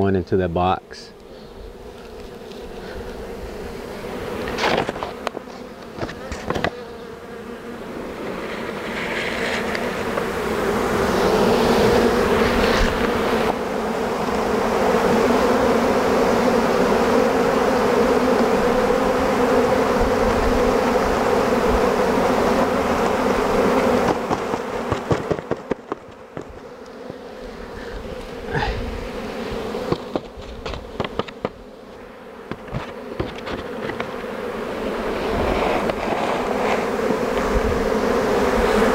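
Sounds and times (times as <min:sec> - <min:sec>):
bee swarm buzzing: 0:00.0 - 0:38.9.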